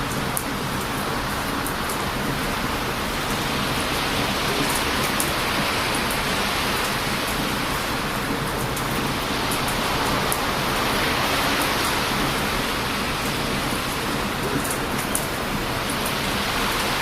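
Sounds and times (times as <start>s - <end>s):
heavy surf: 0.0s - 17.0s
strong wind: 0.0s - 17.0s
bonfire crackling: 0.2s - 17.0s.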